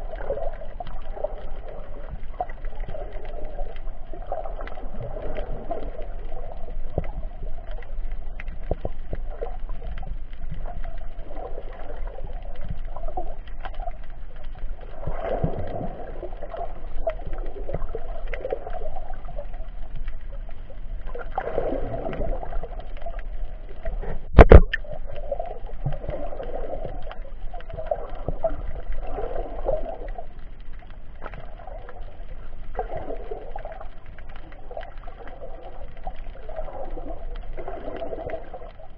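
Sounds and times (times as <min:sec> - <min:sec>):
underwater water churning: 0:00.0 - 0:38.9.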